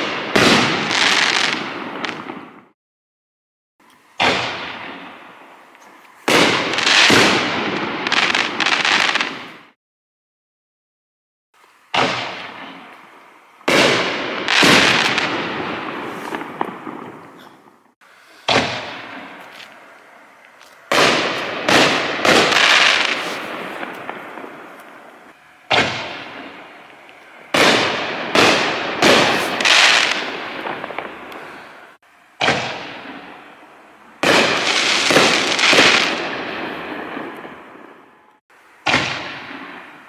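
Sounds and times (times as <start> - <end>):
firework aerial bursts: 0.0 - 2.8, 4.0 - 9.8, 11.6 - 38.2.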